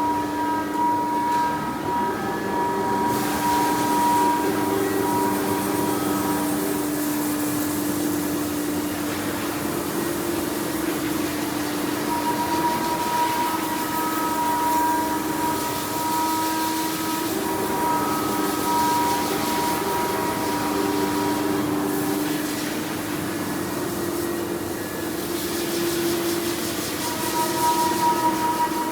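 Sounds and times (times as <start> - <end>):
cnc router whine: 0.0 - 28.9.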